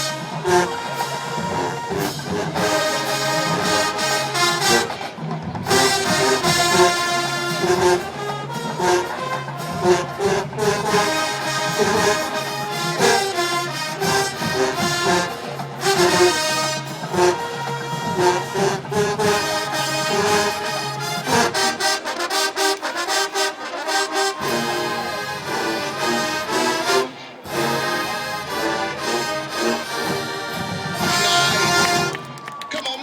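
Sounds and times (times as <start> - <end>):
steady drum beat: 0.0 - 26.0, 27.6 - 32.4
marching band brass: 0.0 - 33.0.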